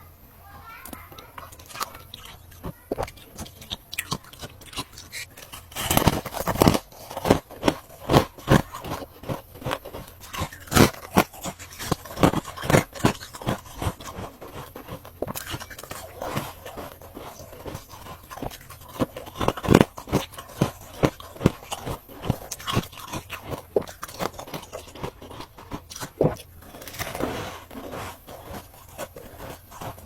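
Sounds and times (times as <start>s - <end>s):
ice crunched between teeth: 0.8s - 30.0s.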